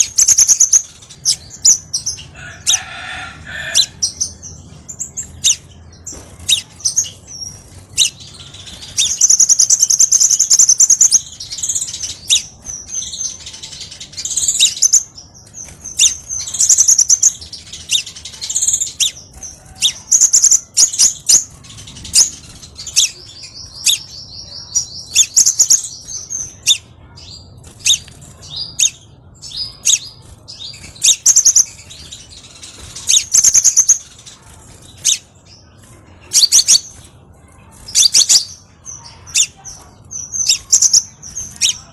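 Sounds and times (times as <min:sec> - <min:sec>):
bird chips and trills: 0:00.0 - 0:41.9.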